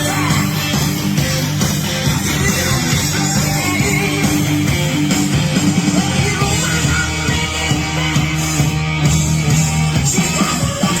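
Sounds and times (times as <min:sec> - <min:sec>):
rock music with distorted guitar: 0:00.0 - 0:11.0.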